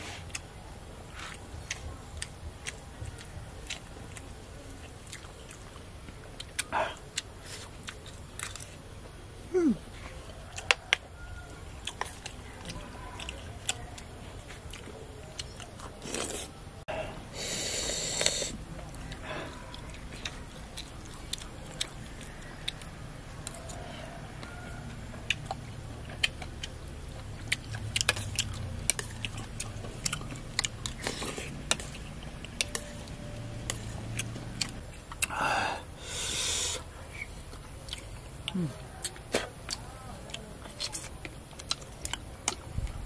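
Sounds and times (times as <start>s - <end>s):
low steady hum: 0.0s - 43.0s
person chewing with clicks: 0.2s - 9.1s, 10.2s - 16.6s, 17.8s - 35.4s, 36.3s - 43.0s.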